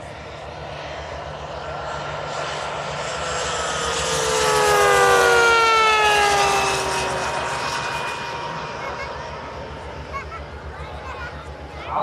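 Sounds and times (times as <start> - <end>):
model aircraft engines whining: 0.0 - 12.0.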